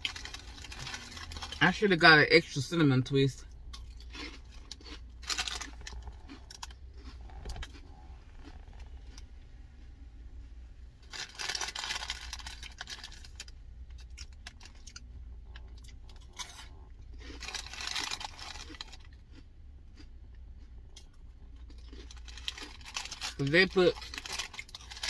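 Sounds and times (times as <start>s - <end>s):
crunchy chewing: 0.0s - 1.6s, 3.5s - 9.8s, 11.0s - 25.0s
steady low hum: 0.0s - 25.0s.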